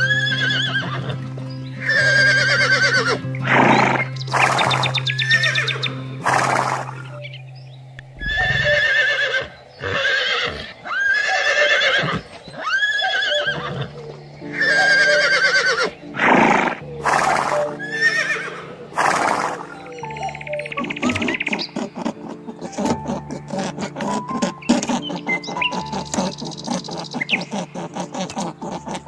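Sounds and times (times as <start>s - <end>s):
horse whinnying: 0.0s - 1.2s, 1.8s - 7.2s, 8.1s - 29.0s
background music: 0.0s - 29.0s.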